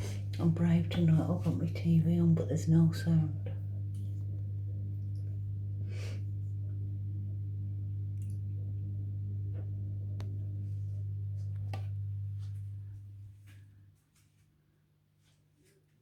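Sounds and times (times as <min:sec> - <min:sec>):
washing machine humming: 0:00.0 - 0:13.6.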